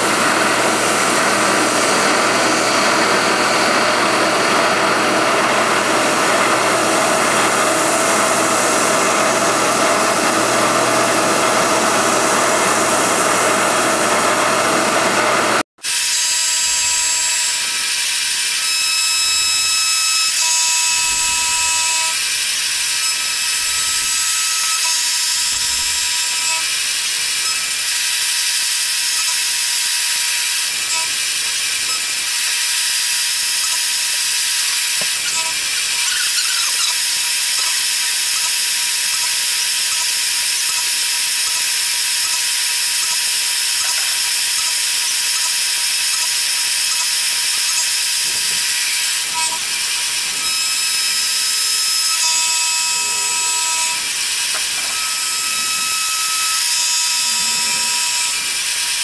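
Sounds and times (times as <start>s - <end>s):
milling machine whirring: 0.0s - 59.0s
whining tones: 0.0s - 59.0s.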